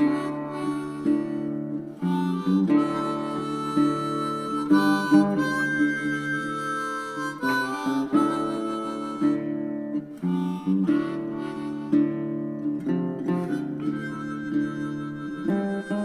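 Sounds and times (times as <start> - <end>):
guitar: 0.0 - 16.0
harmonica playing held notes: 0.0 - 16.0.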